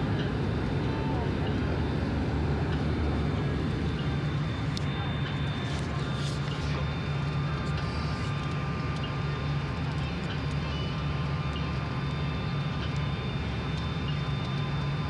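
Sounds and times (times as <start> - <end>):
airliner engine hum: 0.0 - 15.0.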